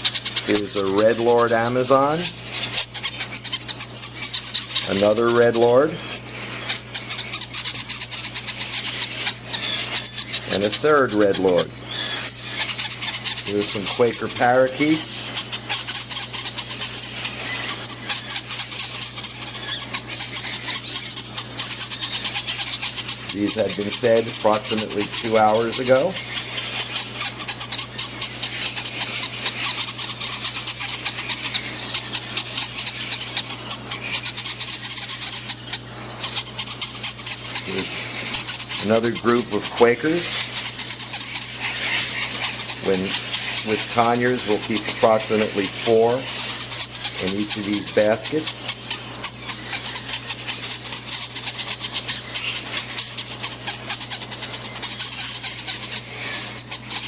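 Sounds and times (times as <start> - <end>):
low steady hum: 0.0 - 57.0
parakeet chicks begging chatter: 0.0 - 57.0.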